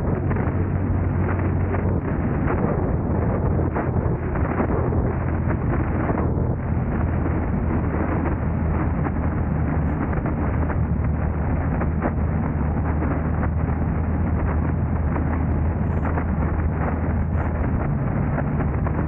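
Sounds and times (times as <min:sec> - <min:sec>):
low car engine drone: 0:00.0 - 0:19.0
road and wind noise: 0:00.0 - 0:19.0.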